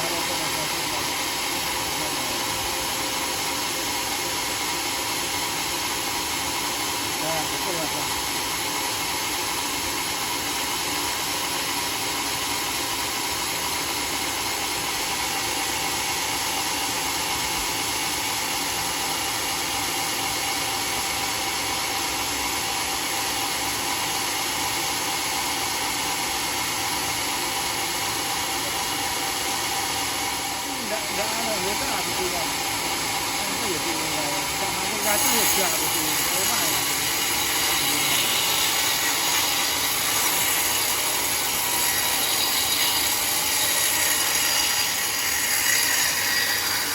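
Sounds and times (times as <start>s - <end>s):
sawmill machinery whirring: 0.0s - 46.9s.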